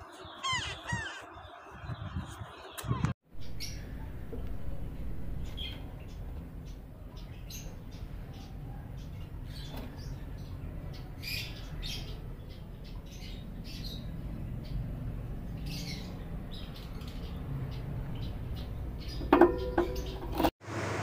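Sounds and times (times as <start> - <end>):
birds chirping and squawking: 0.0 - 20.5.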